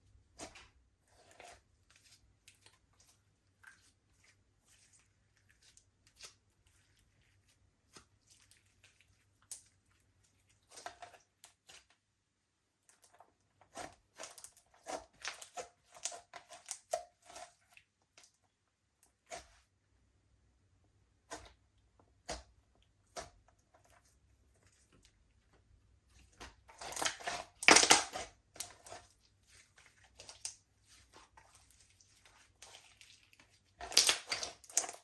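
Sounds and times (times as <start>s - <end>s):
slime squelching: 0.0s - 12.1s, 12.8s - 19.7s, 21.2s - 35.0s.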